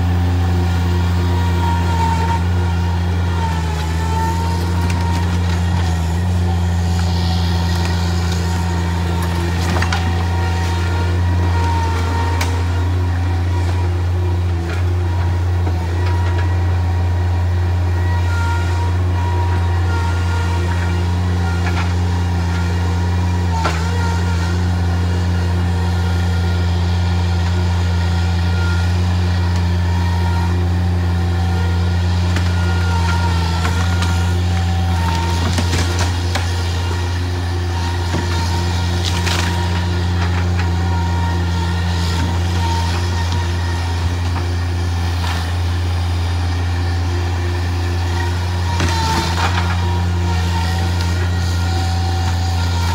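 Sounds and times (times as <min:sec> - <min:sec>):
track loader engine hum: 0:00.0 - 0:52.9.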